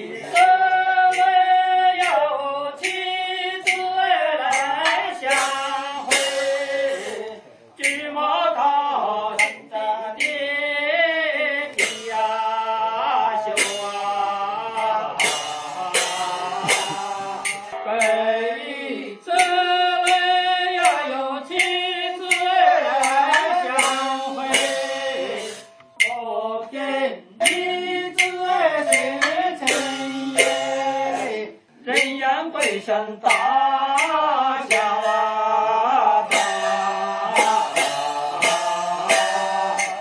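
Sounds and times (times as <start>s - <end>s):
sharp drum strikes: 0.0s - 8.4s, 9.3s - 26.2s, 27.4s - 40.0s
person singing opera: 0.0s - 40.0s.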